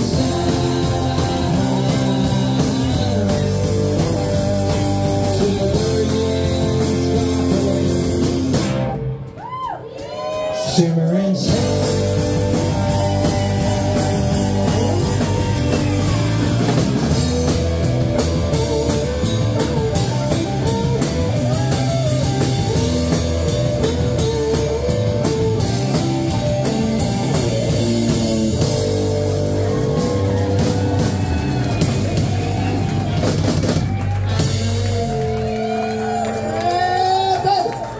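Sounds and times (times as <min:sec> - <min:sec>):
bass guitar: 0:00.0 - 0:37.9
drum kit: 0:00.0 - 0:37.9
electric guitars: 0:00.0 - 0:37.9.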